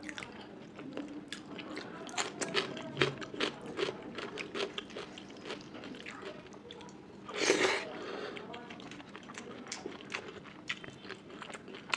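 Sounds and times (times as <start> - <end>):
person chewing food: 0.0 - 6.3, 7.3 - 11.9.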